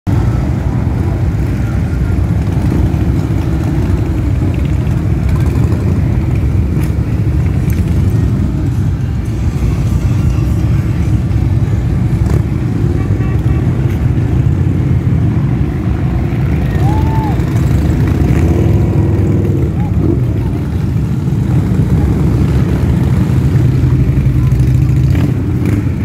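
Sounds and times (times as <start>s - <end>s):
motorcycle engines rumbling: 0.0s - 26.0s.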